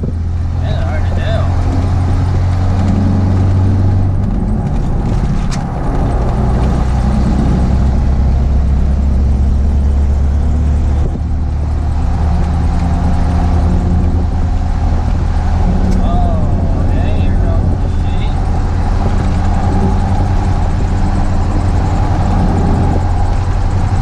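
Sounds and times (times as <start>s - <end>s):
truck engine and tyre drone: 0.0s - 24.0s.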